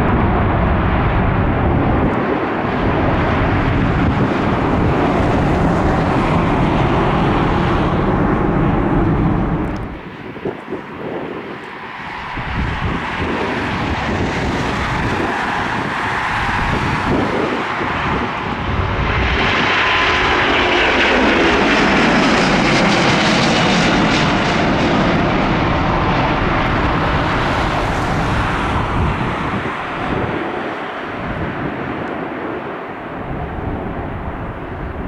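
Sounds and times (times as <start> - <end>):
jet engines passing: 0.0 - 35.0.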